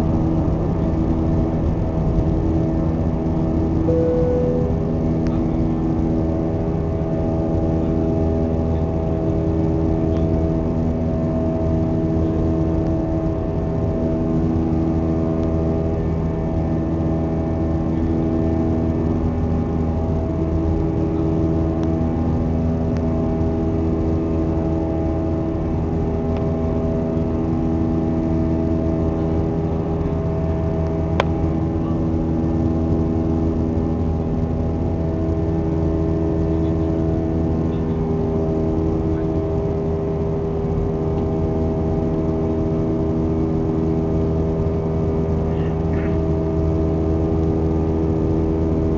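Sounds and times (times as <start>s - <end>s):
jet engines droning in cabin: 0.0s - 48.9s.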